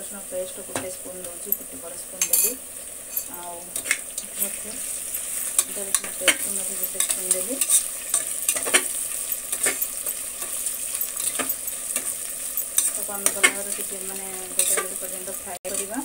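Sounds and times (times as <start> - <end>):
food sizzling in hot oil: 0.0 - 16.0
spoon scraping pot: 2.2 - 16.0.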